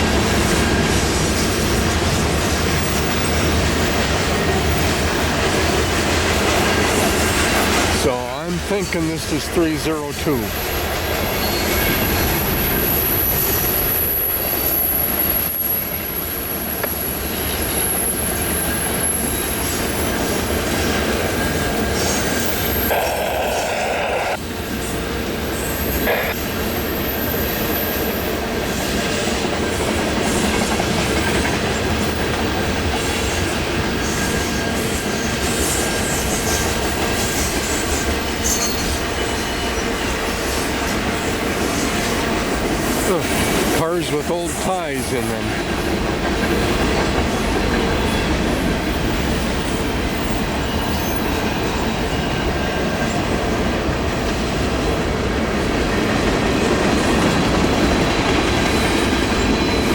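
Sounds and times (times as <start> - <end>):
train wheels rumbling: 0.0 - 25.5, 26.9 - 59.9.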